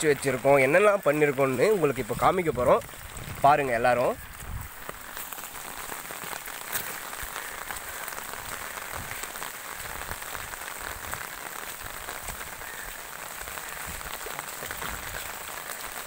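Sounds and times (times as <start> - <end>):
rainwater runoff flowing: 0.0 - 16.0.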